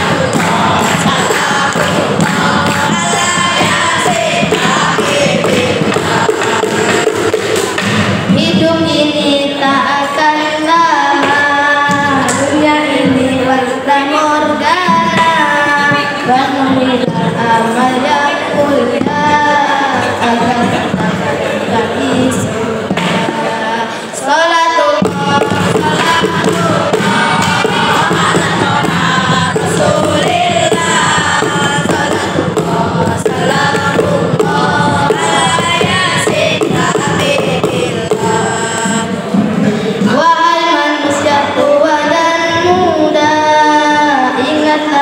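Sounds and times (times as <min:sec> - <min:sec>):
boys singing into microphones: 0:00.0 - 0:45.0.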